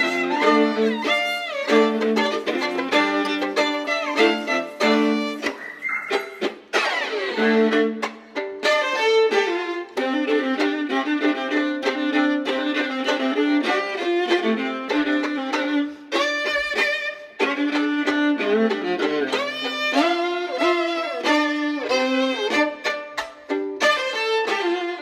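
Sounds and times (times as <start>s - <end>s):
fiddle playing lively tune: 0.0s - 25.0s.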